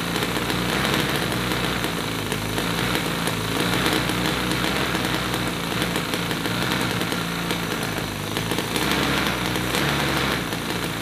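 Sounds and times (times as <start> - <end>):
model engine idling: 0.0 - 11.0.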